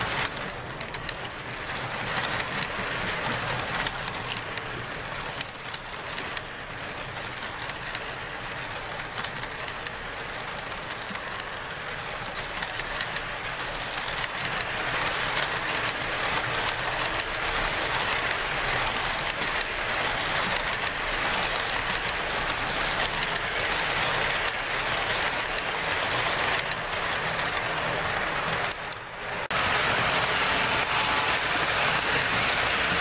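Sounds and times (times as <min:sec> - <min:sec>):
model train cars rolling on rails: 0:00.0 - 0:33.0.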